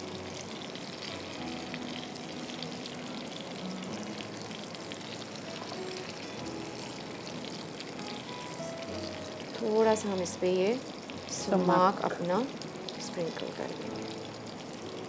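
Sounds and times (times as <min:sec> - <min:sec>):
fish sizzling in a skillet: 0:00.0 - 0:15.0
soft background music: 0:00.0 - 0:15.0.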